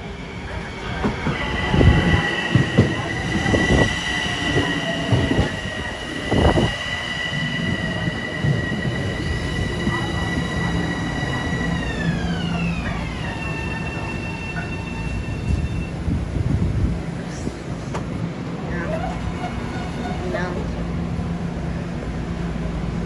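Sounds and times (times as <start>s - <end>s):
high steady wheel squeal: 0.0s - 16.4s, 18.7s - 22.2s
train passing close by: 0.0s - 23.0s.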